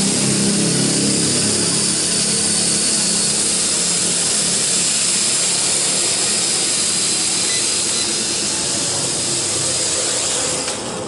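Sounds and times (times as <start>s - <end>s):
toy drone propellers whirring: 0.0s - 11.0s.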